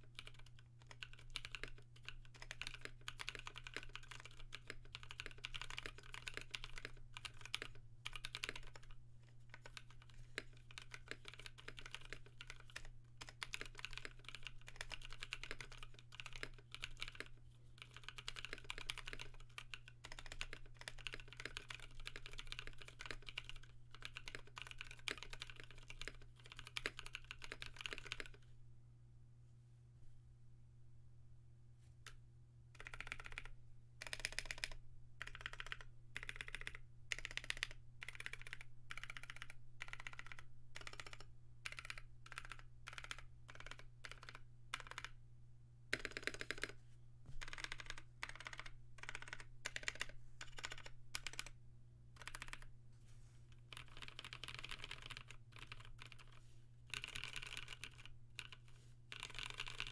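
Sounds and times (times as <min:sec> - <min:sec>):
mechanical keyboard typing: 0:00.0 - 0:28.4, 0:32.8 - 0:45.2, 0:45.9 - 0:46.8, 0:47.4 - 0:51.6, 0:52.2 - 0:52.7, 0:53.6 - 0:59.9
faint low hum: 0:00.0 - 0:59.9.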